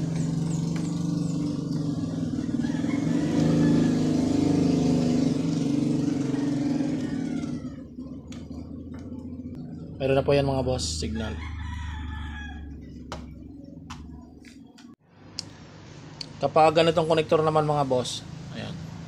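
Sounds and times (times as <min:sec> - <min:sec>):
vehicle engine passing by: 0:00.0 - 0:14.4, 0:15.6 - 0:19.0.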